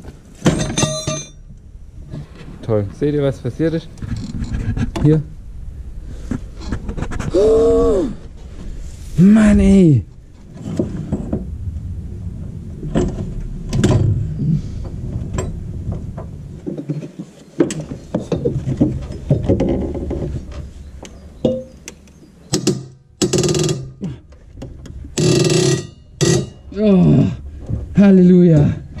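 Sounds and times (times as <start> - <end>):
metal grinding and straining: 0.0 - 7.4, 8.2 - 21.8, 22.4 - 29.0.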